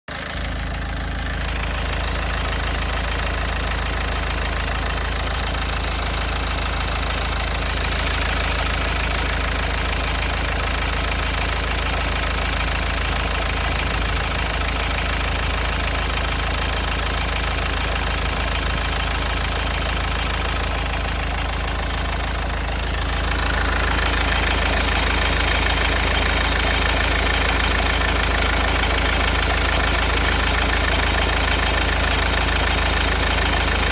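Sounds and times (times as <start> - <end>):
engine knocking: 0.0 - 33.9
engine running: 0.1 - 33.9.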